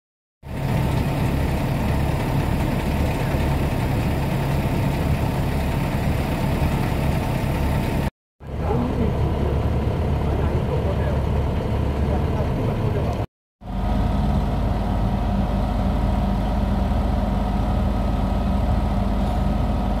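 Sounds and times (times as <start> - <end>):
drill rig engine running: 0.4 - 20.0.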